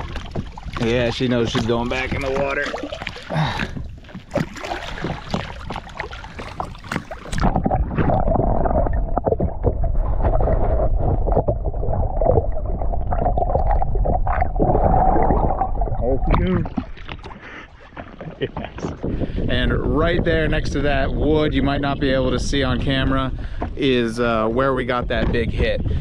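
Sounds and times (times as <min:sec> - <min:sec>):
muffled underwater rumble and gurgle: 0:00.0 - 0:26.0
water splashing: 0:00.0 - 0:26.0.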